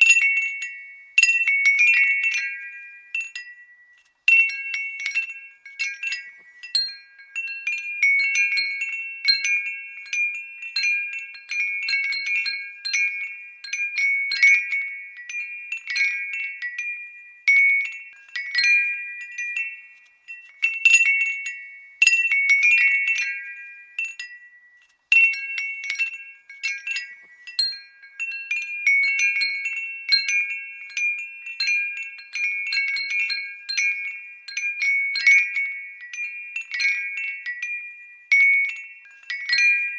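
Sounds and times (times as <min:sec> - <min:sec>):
glass windbell tinkling: 0:00.0 - 0:39.9.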